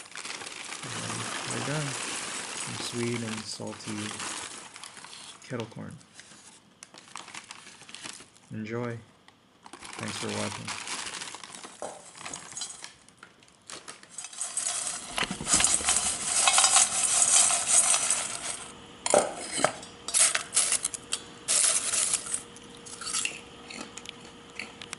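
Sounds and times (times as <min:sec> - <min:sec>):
popcorn rustling in a bowl: 0:00.0 - 0:09.0, 0:09.6 - 0:24.4.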